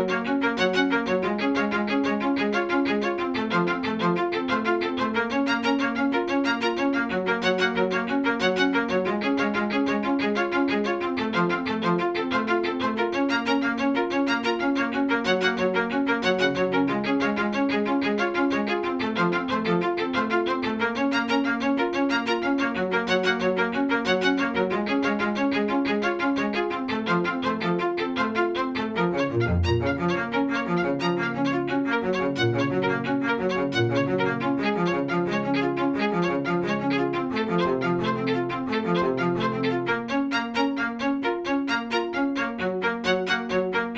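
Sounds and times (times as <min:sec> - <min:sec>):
bowed strings music: 0:00.0 - 0:43.9.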